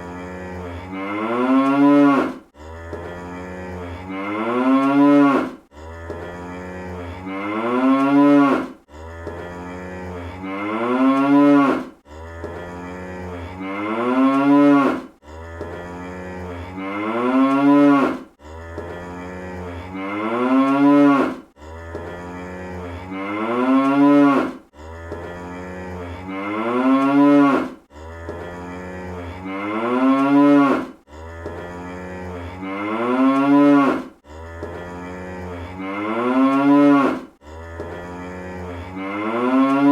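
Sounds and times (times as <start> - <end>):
cartoon cow mooing: 0.0 - 39.9.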